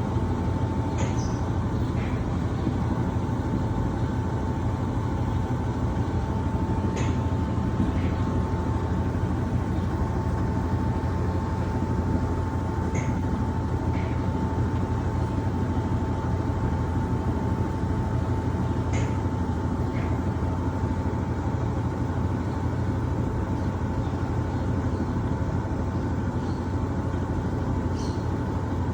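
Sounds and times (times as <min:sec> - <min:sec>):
washing machine running: 0:00.0 - 0:28.9.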